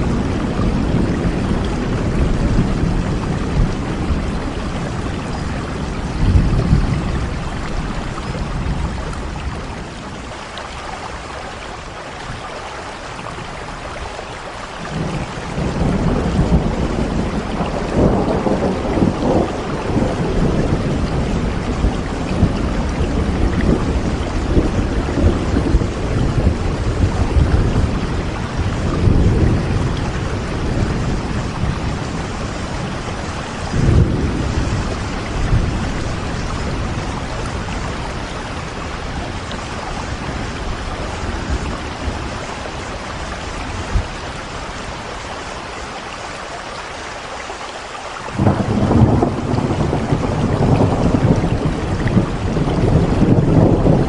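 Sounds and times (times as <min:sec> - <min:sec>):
rolling thunder: 0:00.0 - 0:10.4, 0:14.8 - 0:45.0, 0:48.3 - 0:54.0
steady rainfall: 0:00.0 - 0:54.0.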